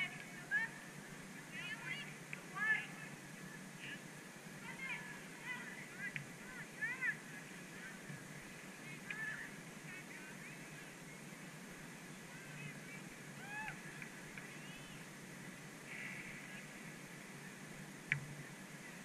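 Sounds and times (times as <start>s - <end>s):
low steady background hum: 0.0s - 19.0s.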